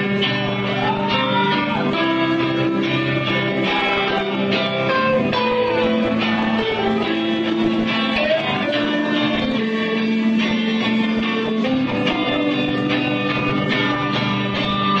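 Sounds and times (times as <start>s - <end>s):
electric guitar bent notes: 0.0s - 15.0s
heavy metal band playing: 0.0s - 15.0s.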